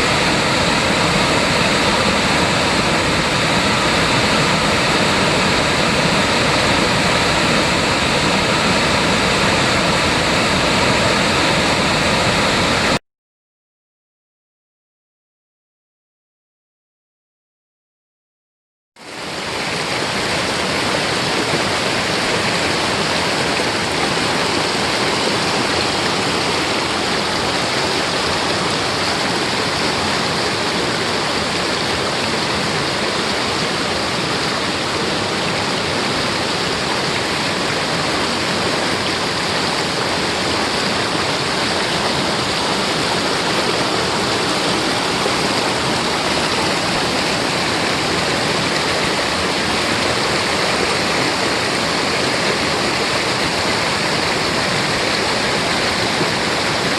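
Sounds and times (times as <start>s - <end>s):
stream water rushing: 0.0s - 13.0s, 19.0s - 56.9s.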